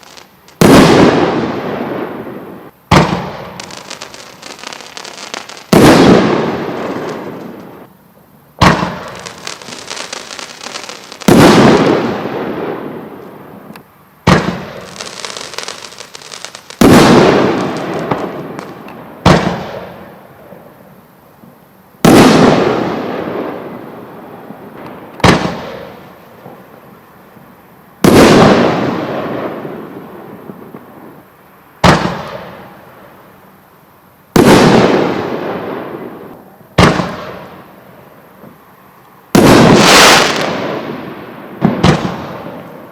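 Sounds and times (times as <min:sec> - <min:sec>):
fireworks bangs with echoing rumble: 0:00.0 - 0:07.9, 0:08.6 - 0:33.1, 0:34.3 - 0:38.6, 0:39.3 - 0:42.9
faint fireworks crackling: 0:00.0 - 0:42.9.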